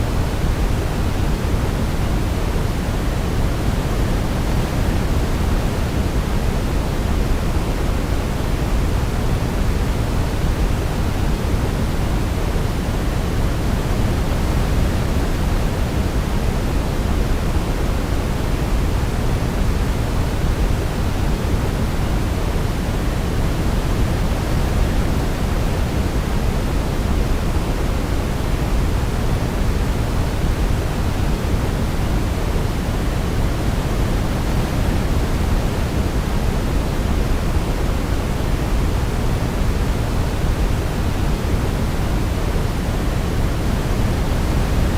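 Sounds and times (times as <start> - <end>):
low steady noise hiss: 0.0 - 44.9.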